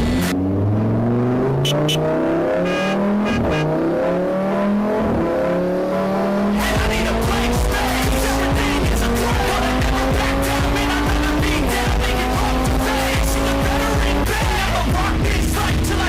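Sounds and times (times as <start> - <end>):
racing car engine accelerating: 0.0 - 16.0.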